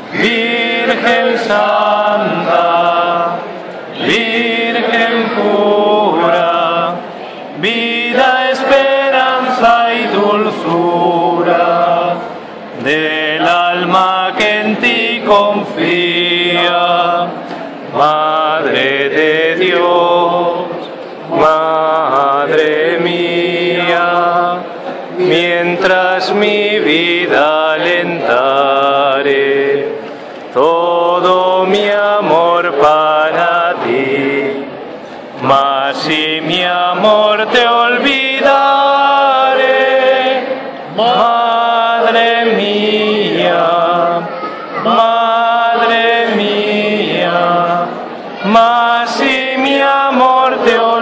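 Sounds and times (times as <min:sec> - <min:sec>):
voices singing: 0:00.0 - 0:51.0.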